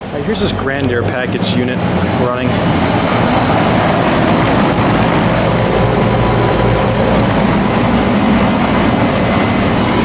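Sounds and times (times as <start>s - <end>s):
air conditioner air rush: 0.0s - 10.0s
low hum: 0.1s - 10.0s.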